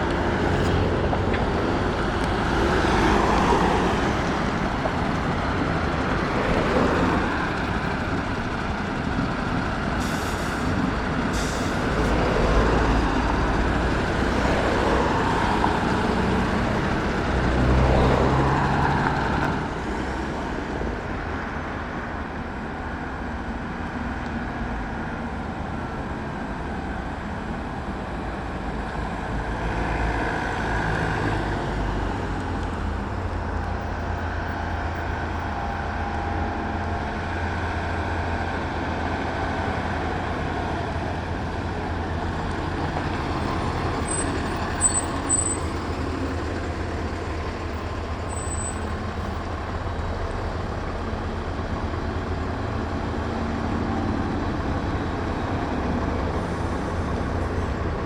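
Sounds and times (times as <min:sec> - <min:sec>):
heavy trucks driving past: 0:00.0 - 0:58.0.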